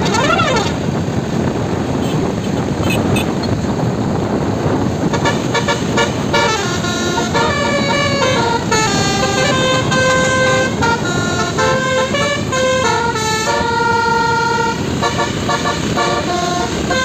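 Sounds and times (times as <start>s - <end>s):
bus horn playing melodies: 0.0s - 1.2s, 1.9s - 3.6s, 5.0s - 17.0s
engine and road noise: 0.0s - 17.0s.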